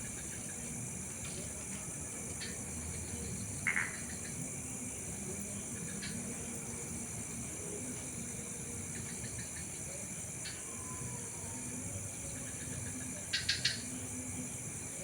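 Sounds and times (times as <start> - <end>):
crickets and night insects chirping: 0.0 - 15.0
loud insect chirp: 0.0 - 15.0.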